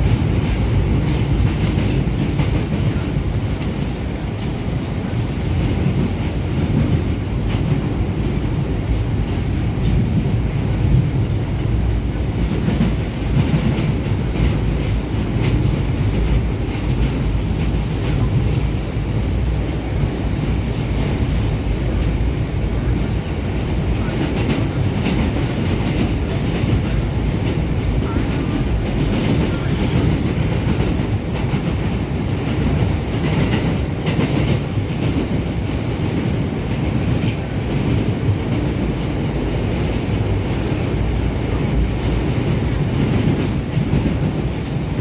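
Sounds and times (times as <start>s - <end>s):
subway train rumble: 0.0s - 45.0s.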